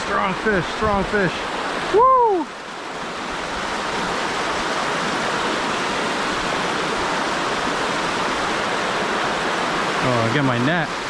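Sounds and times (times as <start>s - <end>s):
river water rushing over rapids: 0.0s - 11.0s.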